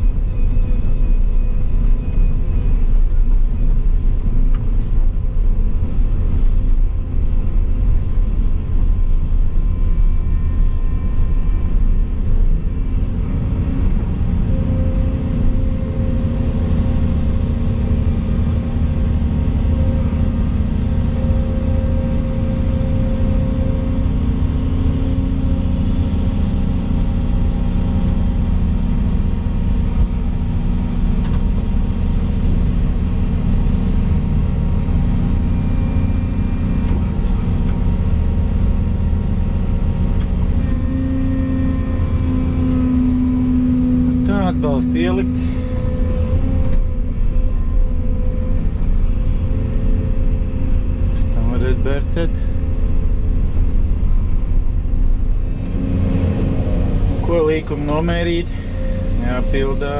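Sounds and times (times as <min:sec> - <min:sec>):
diesel engine rumbling: 0:00.0 - 0:59.9
hydraulic whine: 0:07.8 - 0:59.9.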